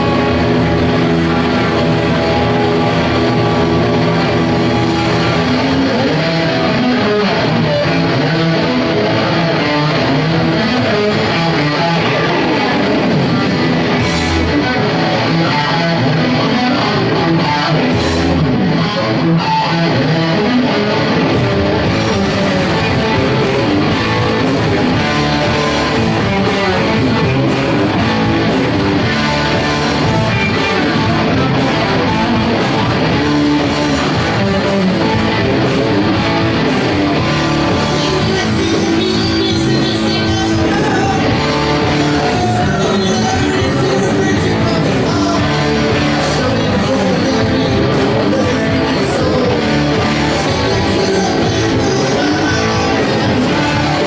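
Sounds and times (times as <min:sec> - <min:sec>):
rock band playing instrumental: 0:00.0 - 0:54.0.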